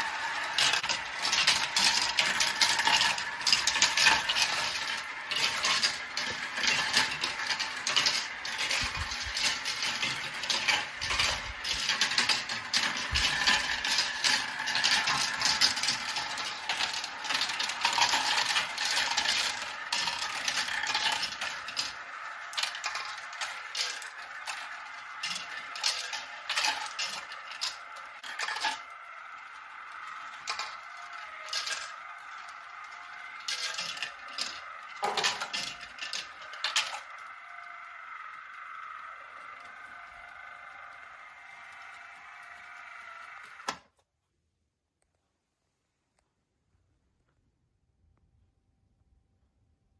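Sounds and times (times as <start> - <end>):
marbles clattering through marble run: 0.0 - 43.8.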